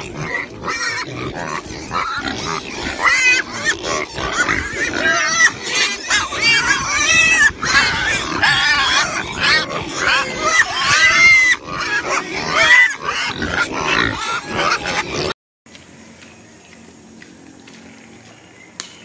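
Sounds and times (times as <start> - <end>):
pigs grunting and squealing: 0.0 - 15.4.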